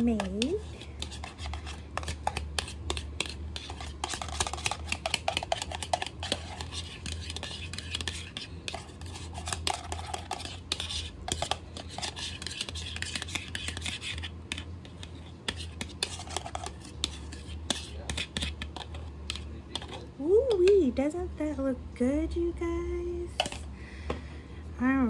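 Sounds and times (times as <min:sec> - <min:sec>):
utensil scraping mixing bowl: 0:00.0 - 0:20.7
low steady hum: 0:00.0 - 0:25.0.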